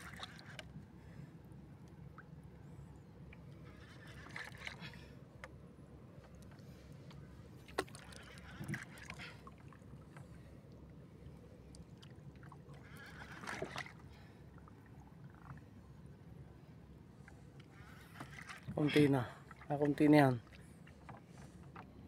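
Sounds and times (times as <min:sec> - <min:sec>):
low steady rumble: 0:00.0 - 0:22.0
water lapping against boat: 0:00.0 - 0:22.0.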